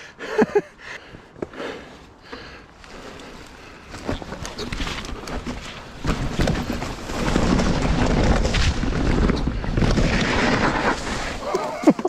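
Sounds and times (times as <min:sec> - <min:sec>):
bike tyres rumbling over roots: 0:01.9 - 0:12.0.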